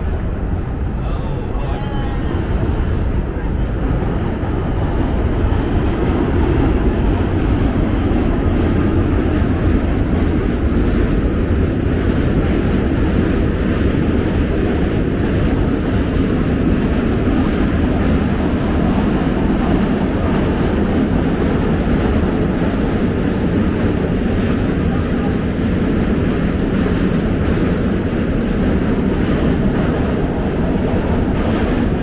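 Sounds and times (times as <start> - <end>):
subway train rumbling roar: 0.0 - 32.0.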